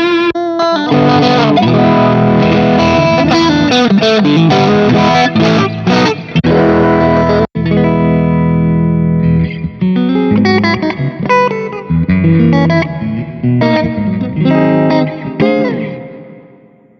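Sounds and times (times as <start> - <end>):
electric guitar chord: 0.0 - 16.9
electric guitar lead notes: 0.0 - 16.9.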